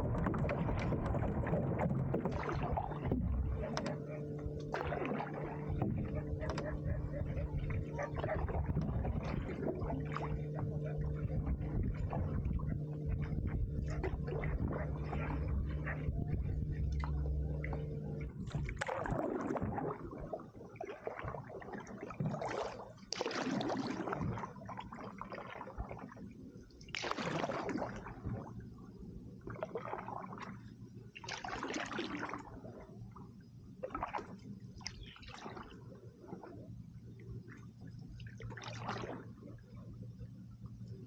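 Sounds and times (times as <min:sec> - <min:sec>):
canoe paddle splashing: 0:00.0 - 0:26.1, 0:26.9 - 0:28.5, 0:29.5 - 0:30.6, 0:31.2 - 0:32.8, 0:33.8 - 0:36.7, 0:38.2 - 0:39.6
low steady hum: 0:00.0 - 0:41.0
water gurgling around hull: 0:00.0 - 0:41.0.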